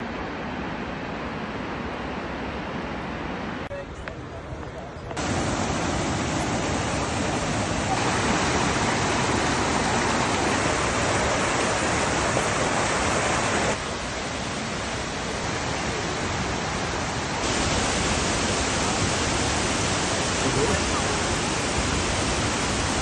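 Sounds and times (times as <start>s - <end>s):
rushing water roar: 0.0s - 3.7s, 5.1s - 23.0s.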